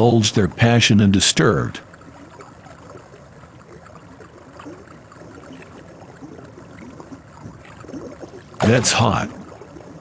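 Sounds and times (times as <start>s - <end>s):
flowing water rushing: 0.0s - 10.0s
water trickles and splashes: 0.0s - 10.0s.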